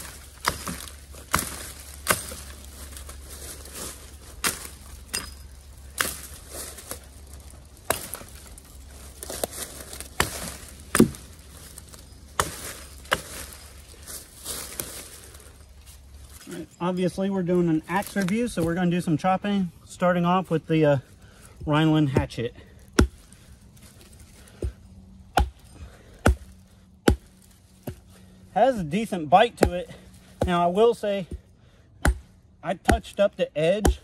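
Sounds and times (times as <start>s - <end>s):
hatchet chopping branches: 0.0s - 15.4s, 22.0s - 34.0s.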